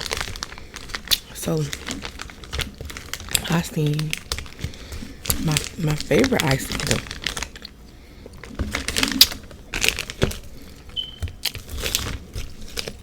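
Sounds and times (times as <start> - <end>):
crinkling and crunching ice: 0.0 - 13.0.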